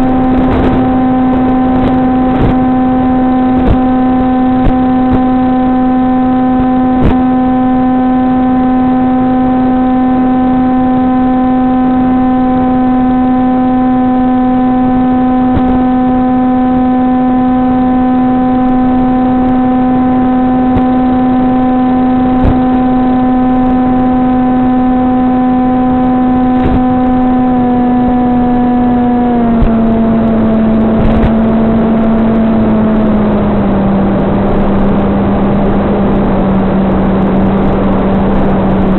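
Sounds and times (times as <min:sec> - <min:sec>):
electric motor spinning propeller: 0:00.0 - 0:38.9.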